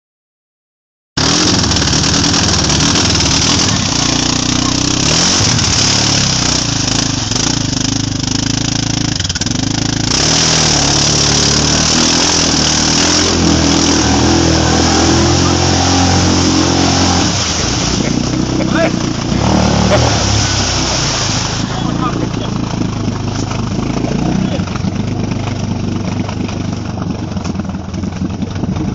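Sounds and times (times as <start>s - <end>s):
quad engine revving: 1.2s - 28.9s.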